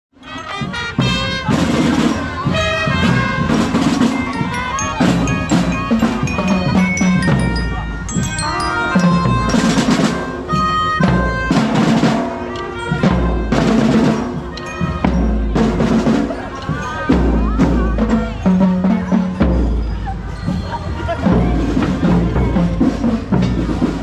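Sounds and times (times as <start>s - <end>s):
music with heavy drum beats: 0.3s - 24.0s.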